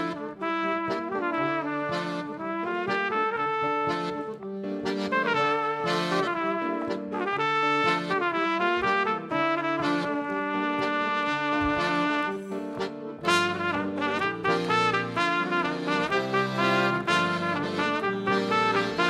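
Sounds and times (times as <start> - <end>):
wind instruments folk dance melody: 0.0 - 19.0.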